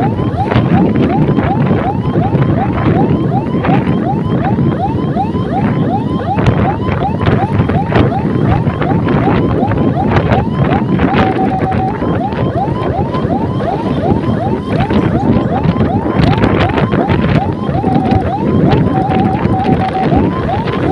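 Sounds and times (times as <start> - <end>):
electronic siren yelping: 0.0 - 20.9
wind rush on microphone: 0.0 - 20.9.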